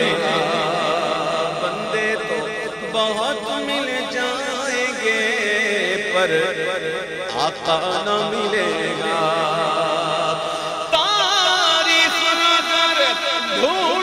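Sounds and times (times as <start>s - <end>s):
man singing ornamented notes: 0.0s - 14.0s.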